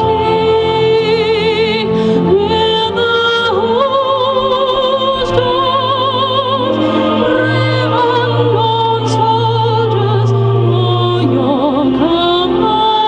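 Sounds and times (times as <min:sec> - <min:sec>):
instrumental accompaniment: 0:00.0 - 0:13.0
woman singing with vibrato: 0:00.0 - 0:13.0.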